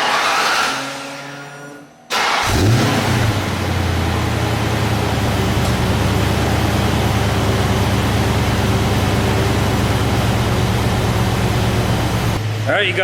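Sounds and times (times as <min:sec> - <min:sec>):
car engine idling: 0:02.1 - 0:13.0.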